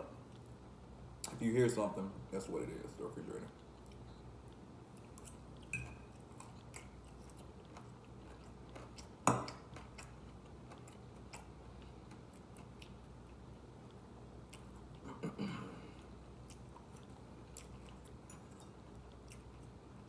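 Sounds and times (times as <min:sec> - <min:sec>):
faint low hum: 0:00.0 - 0:20.0
chewing soft food: 0:03.2 - 0:15.2, 0:15.8 - 0:20.0.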